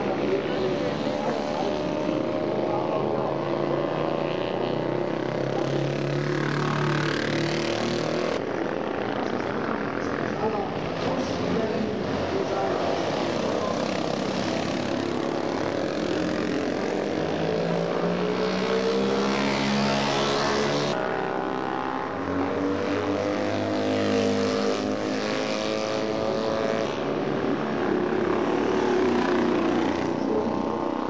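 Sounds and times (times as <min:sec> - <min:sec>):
motorcycles passing at speed: 0:00.0 - 0:31.0.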